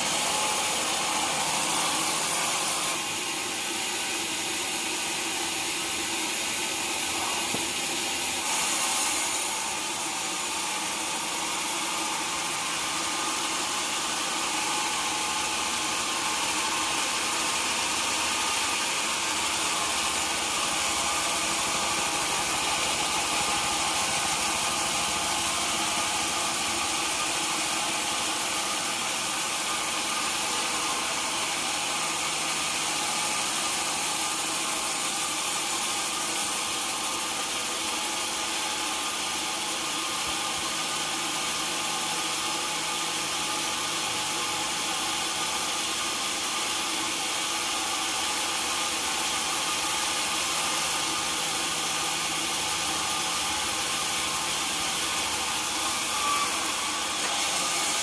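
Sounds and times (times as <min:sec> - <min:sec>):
sawmill machinery drone: 0:00.0 - 0:58.0.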